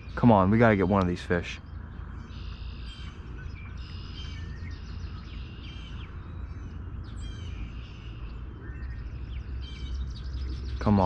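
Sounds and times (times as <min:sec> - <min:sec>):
songbirds singing and chirping: 0:00.0 - 0:11.0
steady low rumble: 0:00.0 - 0:11.0.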